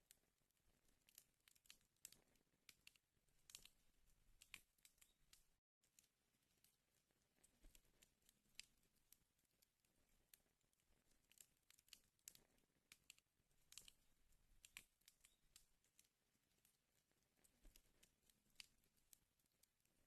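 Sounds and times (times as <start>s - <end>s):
faint wood fire crackling: 0.0s - 20.0s.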